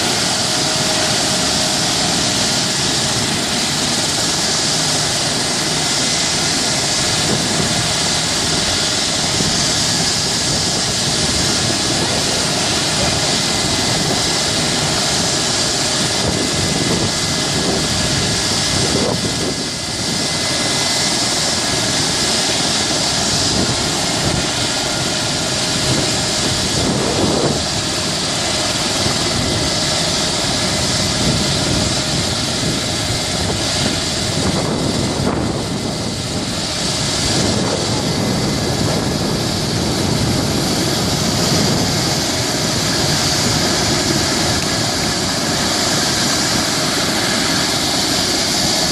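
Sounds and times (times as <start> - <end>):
helicopter engine and rotor: 0.0 - 48.9
high whine: 0.0 - 48.9.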